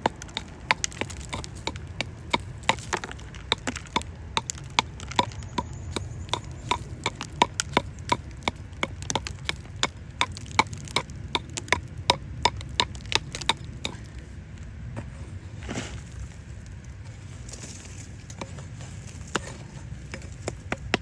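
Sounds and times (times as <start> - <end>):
digging tool striking gravel: 0.0 - 14.3, 17.5 - 21.0.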